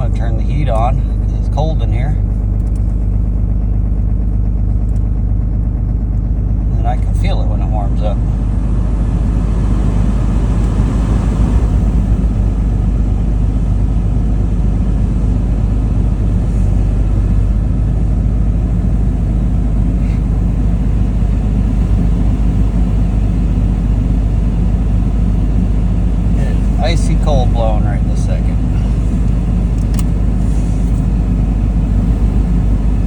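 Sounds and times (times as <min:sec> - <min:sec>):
diesel engine idling: 0:00.0 - 0:33.0
heater blower running: 0:00.0 - 0:33.0.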